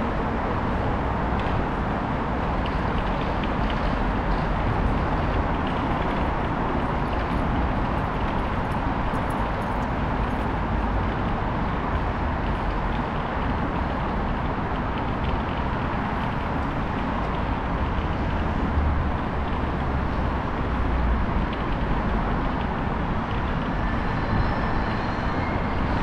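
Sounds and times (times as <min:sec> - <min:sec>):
traffic hum: 0:00.0 - 0:26.0.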